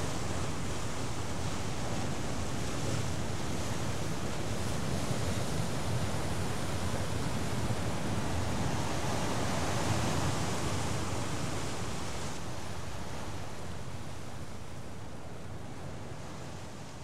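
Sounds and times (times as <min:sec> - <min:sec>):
sea surf: 0:00.0 - 0:17.0
wind: 0:00.0 - 0:17.0.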